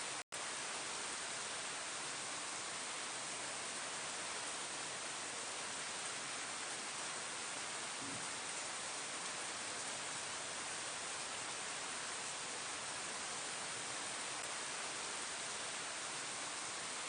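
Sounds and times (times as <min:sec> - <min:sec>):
rain falling on leaves: 0:00.0 - 0:17.0.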